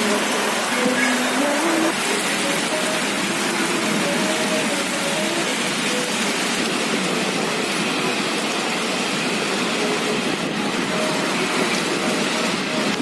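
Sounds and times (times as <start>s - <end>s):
rain and wind storm: 0.0s - 13.0s.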